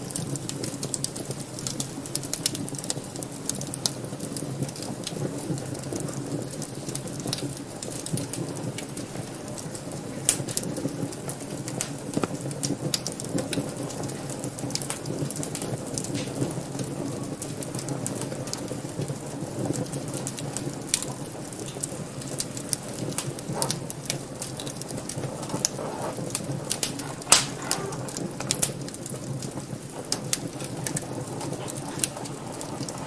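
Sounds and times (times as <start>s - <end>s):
fire crackling and popping: 0.0s - 33.0s
wood fire flames rushing: 0.0s - 33.0s.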